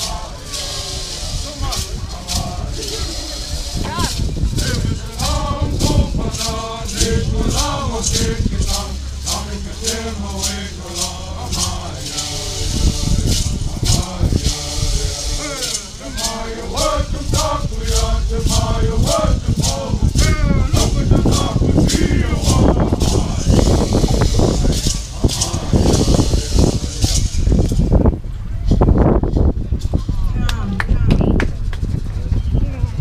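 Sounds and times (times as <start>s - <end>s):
hand rattle shaken: 0.0s - 28.0s
voices singing: 0.0s - 28.1s.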